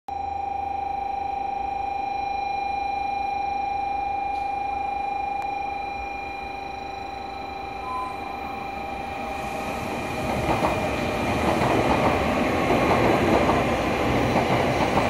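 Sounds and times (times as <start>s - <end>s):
steady electronic warning tone: 0.1s - 15.0s.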